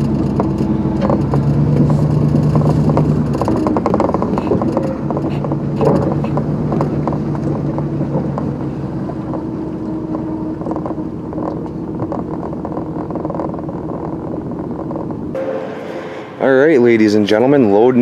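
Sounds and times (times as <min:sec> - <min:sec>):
light rattles and clicks: 0:00.0 - 0:15.4
vehicle engine running: 0:00.0 - 0:16.9.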